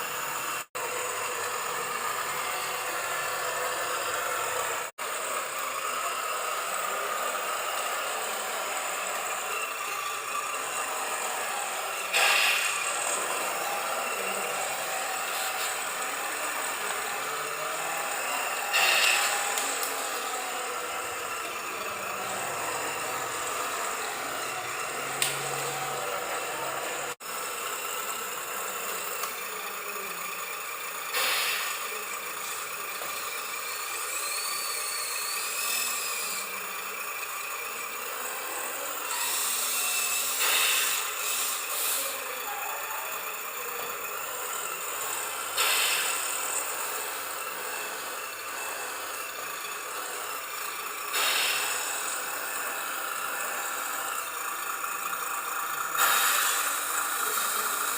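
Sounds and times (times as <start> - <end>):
small electric motors whirring: 0.0 - 57.9.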